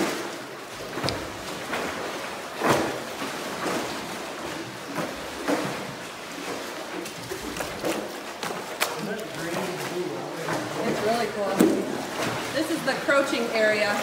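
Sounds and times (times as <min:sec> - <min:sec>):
water sloshing against rock: 0:00.0 - 0:14.0
water splashes: 0:00.0 - 0:14.0.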